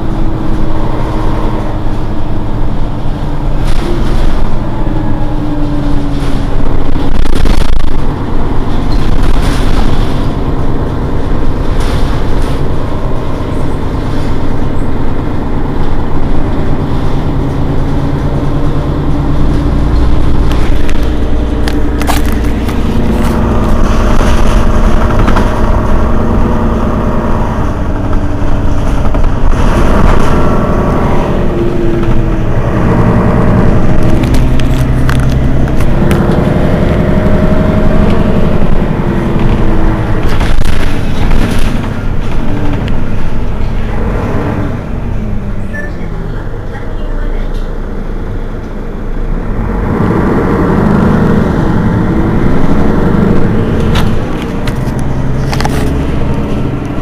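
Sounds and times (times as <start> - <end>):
bus engine idling: 0.0 - 57.0.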